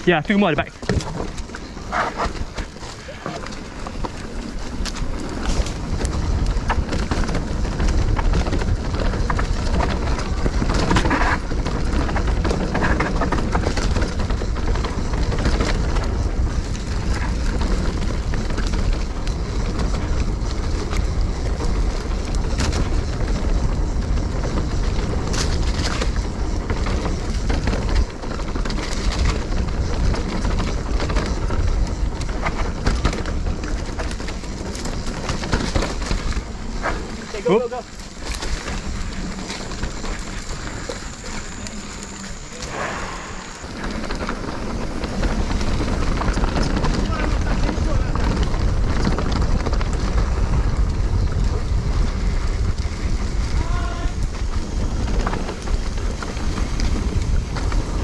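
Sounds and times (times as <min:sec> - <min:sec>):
bike knocking and rattling: 0:00.0 - 0:58.0
tyre noise on dirt: 0:00.0 - 0:58.0
wind rumble on microphone: 0:00.0 - 0:58.0.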